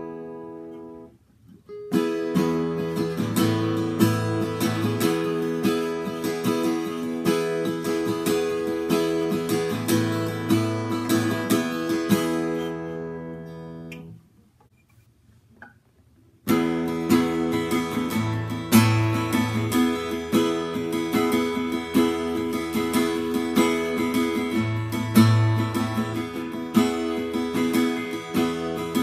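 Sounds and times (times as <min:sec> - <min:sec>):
acoustic guitar chords: 0:00.0 - 0:14.3, 0:16.4 - 0:29.0.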